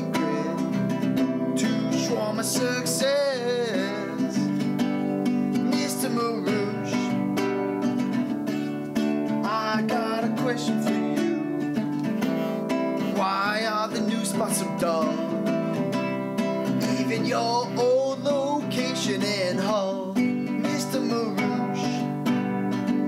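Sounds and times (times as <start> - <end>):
person singing: 0.0 - 23.0
strummed acoustic guitar: 0.0 - 23.0.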